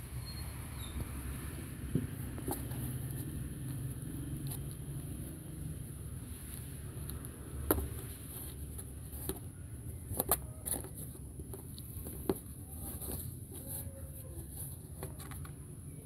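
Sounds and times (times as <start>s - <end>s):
kittens scuffling: 0.8s - 16.0s.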